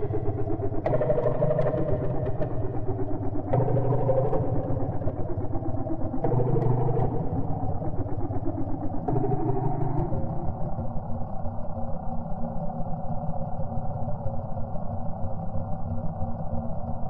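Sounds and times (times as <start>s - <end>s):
pulsing electronic drone: 0.0s - 17.0s.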